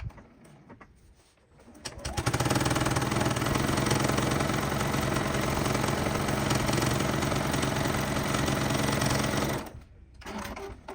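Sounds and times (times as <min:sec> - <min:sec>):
sewing machine stitching: 0:01.7 - 0:10.9.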